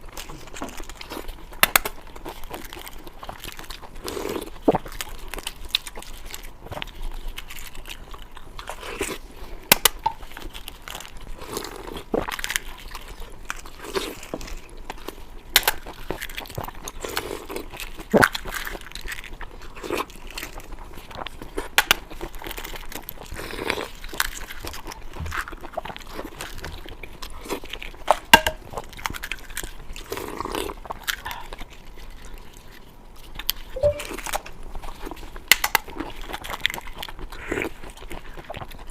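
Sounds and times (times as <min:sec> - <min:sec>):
person crunching and chewing food: 0:00.0 - 0:38.9.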